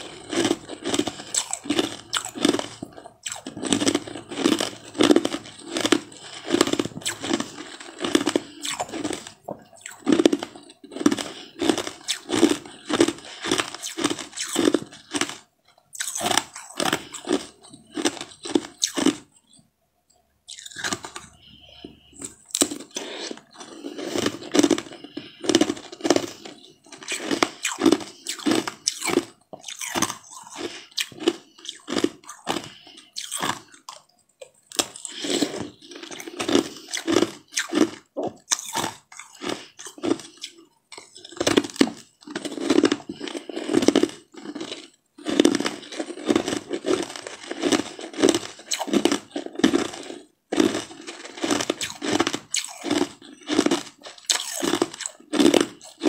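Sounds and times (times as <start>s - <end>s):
crunching bites: 0.0s - 19.6s, 20.5s - 56.0s
wet chewing: 0.0s - 19.6s, 20.5s - 56.0s.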